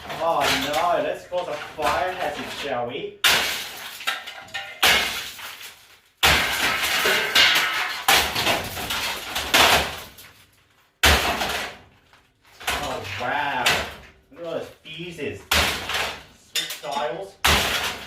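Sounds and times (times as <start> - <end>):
hammer smashing oven glass: 0.0 - 10.3, 11.0 - 11.9, 12.6 - 14.1, 15.5 - 18.0.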